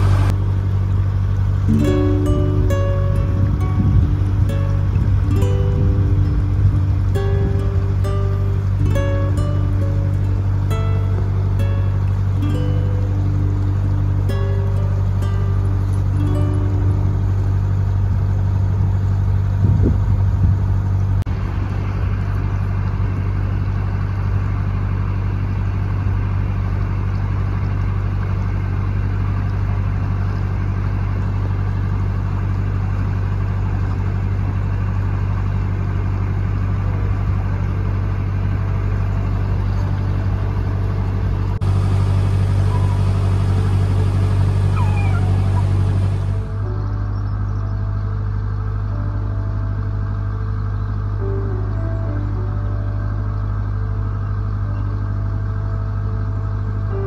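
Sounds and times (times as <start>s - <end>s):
boat diesel engine throbbing: 0.0s - 57.0s.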